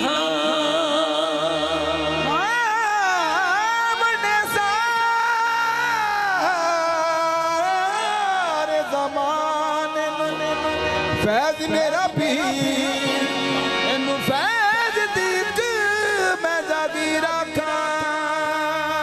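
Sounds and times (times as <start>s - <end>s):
harmonium chords: 0.0s - 19.0s
men singing: 0.0s - 19.0s.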